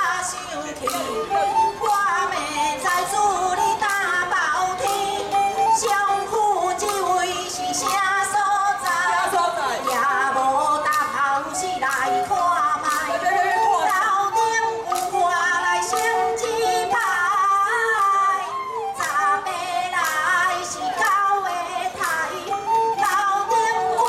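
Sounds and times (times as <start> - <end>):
percussion beat: 0.0 - 24.0
woman singing: 0.0 - 24.0.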